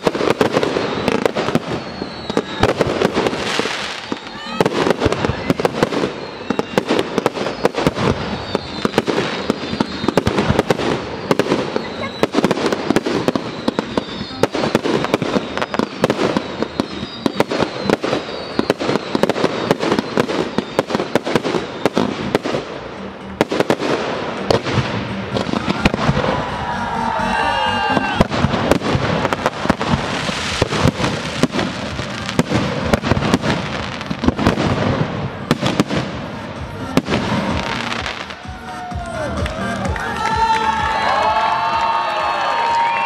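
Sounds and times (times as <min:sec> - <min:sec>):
fireworks bangs and crackle: 0:00.0 - 0:40.3.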